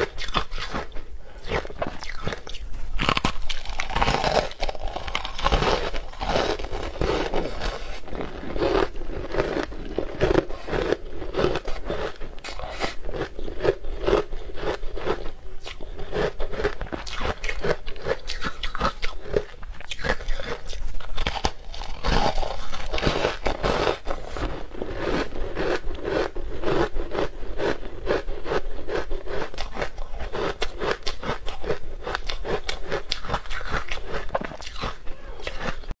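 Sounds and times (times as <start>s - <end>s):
crunching and chewing ice: 0.0s - 35.9s.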